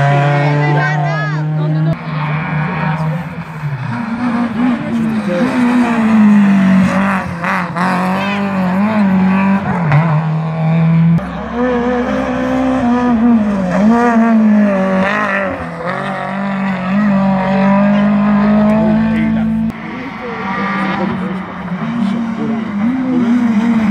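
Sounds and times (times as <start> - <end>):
rally car engine revving: 0.0 - 23.9.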